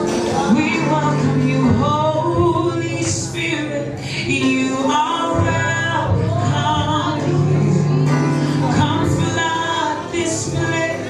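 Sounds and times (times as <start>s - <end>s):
man singing: 0.0s - 11.0s
woman singing: 0.0s - 11.0s
worship band playing: 0.0s - 11.0s.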